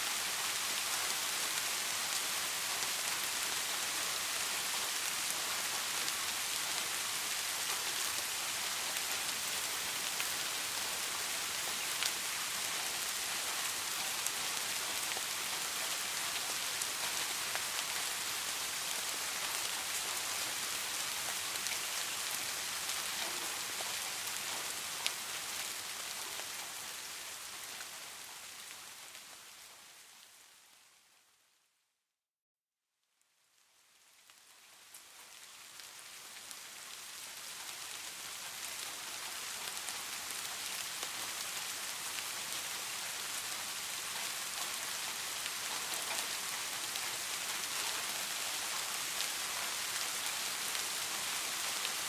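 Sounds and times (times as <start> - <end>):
rain falling on a surface: 0.0 - 31.5, 33.3 - 52.0.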